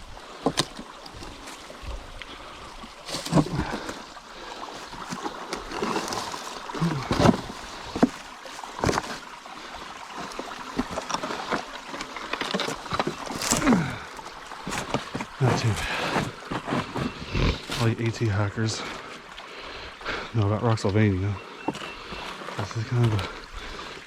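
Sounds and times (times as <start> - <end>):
feet and hands scraping on rock: 0.3 - 19.1, 21.4 - 23.9.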